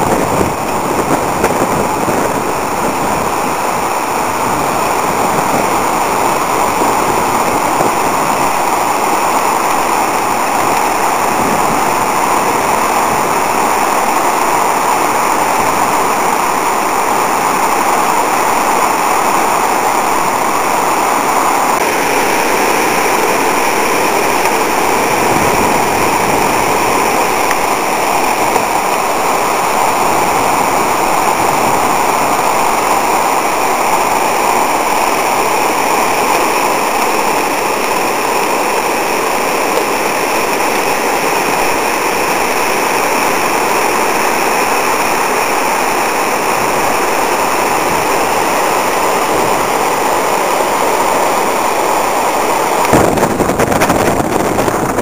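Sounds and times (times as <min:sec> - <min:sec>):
river rushing: 0:00.0 - 0:55.0
wind on microphone: 0:00.0 - 0:55.0.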